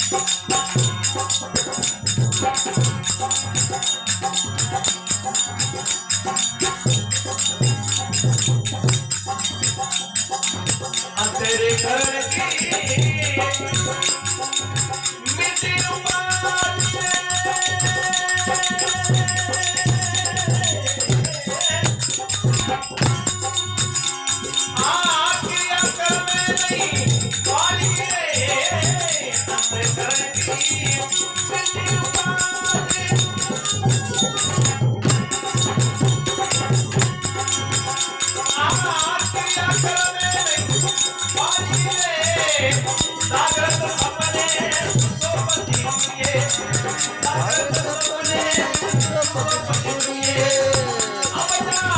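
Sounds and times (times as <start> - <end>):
rattling percussion beat: 0.0 - 51.9.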